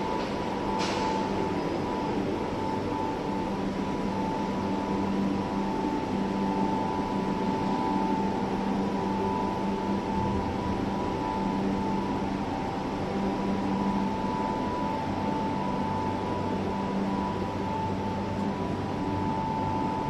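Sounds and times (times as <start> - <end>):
high steady whine: 0.0 - 20.0
pump machinery humming: 0.0 - 20.0.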